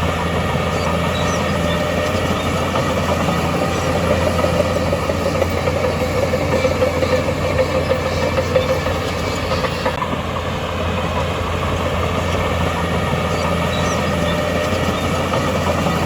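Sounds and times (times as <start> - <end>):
diesel machinery running: 0.0 - 16.0.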